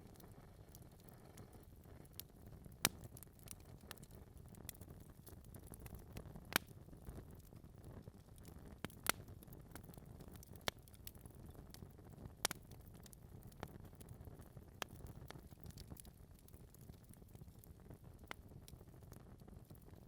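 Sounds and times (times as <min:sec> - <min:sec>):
low rumble of flames: 0:00.0 - 0:20.0
wood fire popping: 0:00.0 - 0:20.0.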